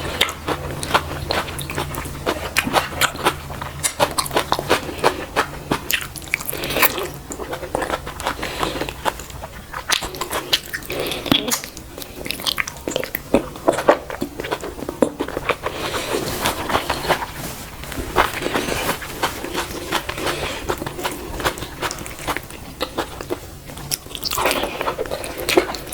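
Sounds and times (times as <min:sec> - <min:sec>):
person chewing with mouth open: 0:00.0 - 0:25.9.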